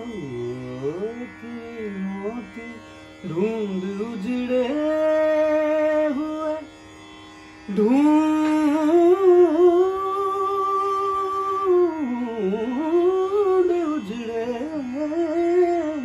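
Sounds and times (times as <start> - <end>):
man singing: 0.0 - 6.7, 7.7 - 16.0.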